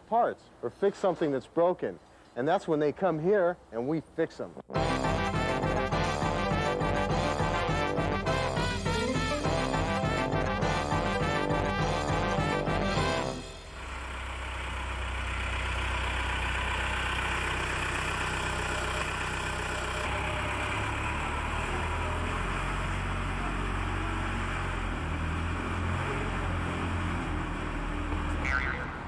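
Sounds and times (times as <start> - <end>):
construction machine engine idling: 4.8 - 28.3.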